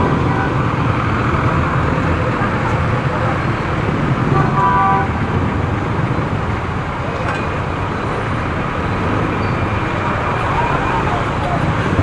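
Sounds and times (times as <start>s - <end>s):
traffic and road noise: 0.0s - 12.0s.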